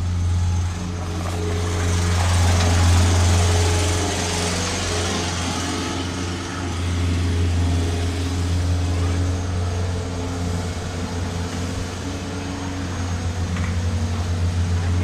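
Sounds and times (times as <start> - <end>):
heavy machinery diesel engines: 0.0 - 15.0.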